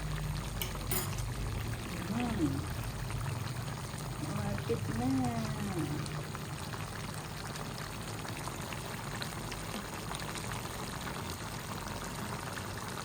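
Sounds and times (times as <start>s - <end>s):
stew boiling and bubbling: 0.0s - 13.0s.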